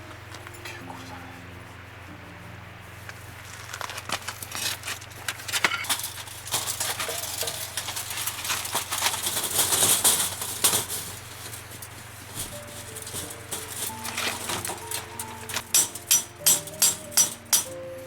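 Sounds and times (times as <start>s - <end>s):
rustling and clicking of objects: 0.0s - 18.0s
steady low hum: 0.0s - 18.0s.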